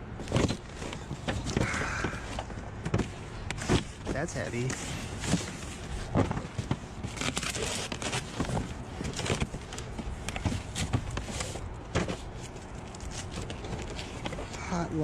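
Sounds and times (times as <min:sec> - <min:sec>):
rustling: 0:00.2 - 0:14.7.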